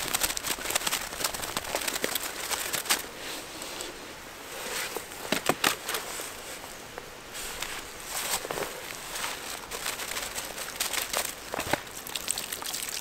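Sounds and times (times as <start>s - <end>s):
dry leaves and twigs crackling: 0.0s - 4.0s, 4.6s - 13.0s.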